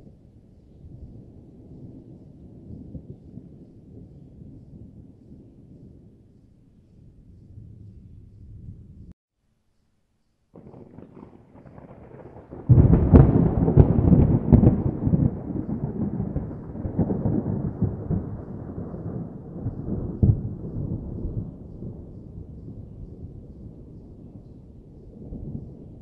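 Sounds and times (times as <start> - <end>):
crackling thunderclap: 0.0 - 6.4, 10.6 - 26.0
low thunder rumble: 0.0 - 9.2, 10.6 - 26.0.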